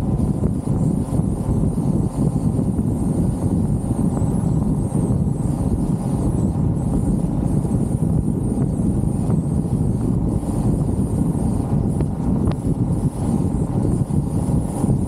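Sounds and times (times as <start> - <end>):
faint high whine: 0.0 - 15.0
road and engine rumble: 0.0 - 15.0
wind buffeting microphone: 0.0 - 15.0.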